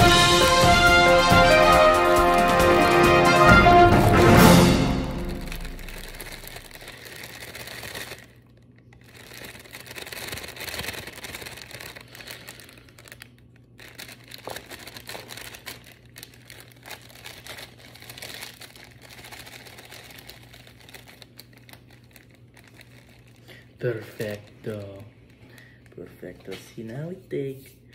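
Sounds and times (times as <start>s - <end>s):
plastic bag crinkling: 4.2s - 27.1s.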